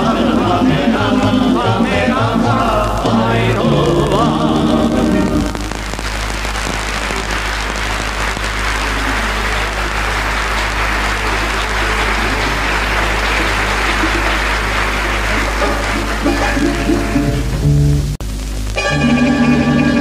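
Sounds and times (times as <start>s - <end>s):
audience applauding: 0.0s - 17.6s
low steady recording hum: 0.0s - 20.0s.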